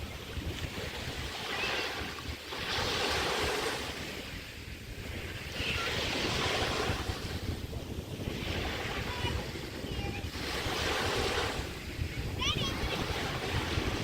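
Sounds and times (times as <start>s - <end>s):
small waves washing onto beach: 0.0s - 14.0s
wind rumbling on microphone: 0.0s - 14.0s.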